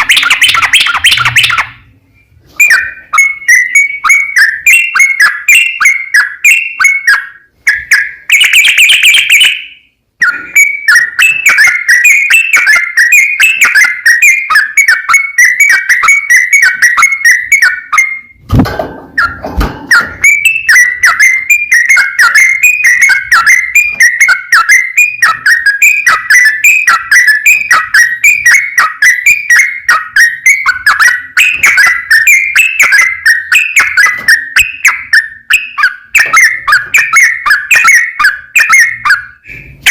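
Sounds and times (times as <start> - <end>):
bird singing whistled notes: 0.0 - 18.4, 20.0 - 39.9.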